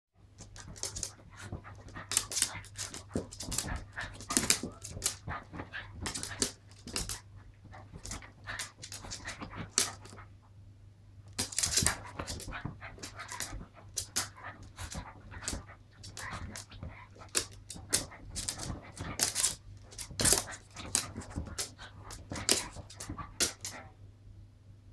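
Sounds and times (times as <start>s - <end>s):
dogs panting and huffing: 0.5s - 10.4s, 11.4s - 23.9s.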